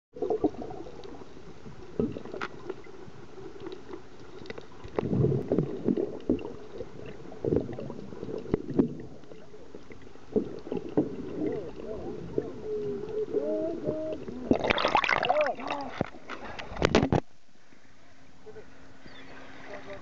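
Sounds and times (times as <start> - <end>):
water bubbling and gurgling: 0.1 - 17.0
low underwater hum: 0.1 - 20.0.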